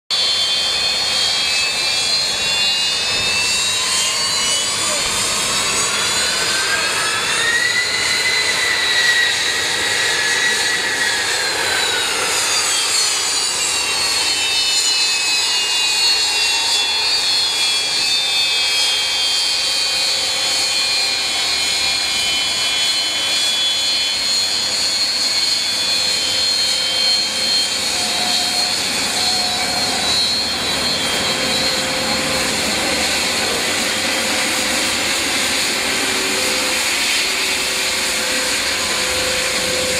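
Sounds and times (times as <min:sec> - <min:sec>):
aircraft turbine engine whine: 0:00.1 - 0:39.9.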